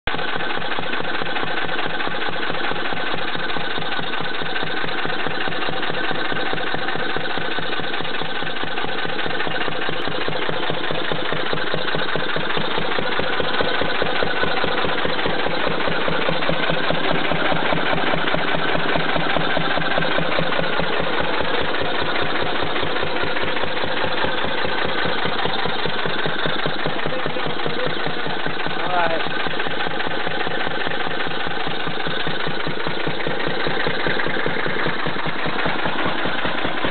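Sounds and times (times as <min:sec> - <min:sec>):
stationary engine running: 0:00.1 - 0:36.9.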